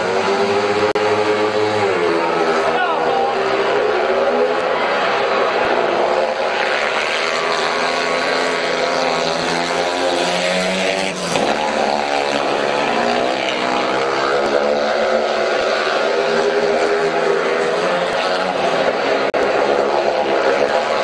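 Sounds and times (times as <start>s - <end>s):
motorbikes racing at full throttle: 0.0s - 21.0s.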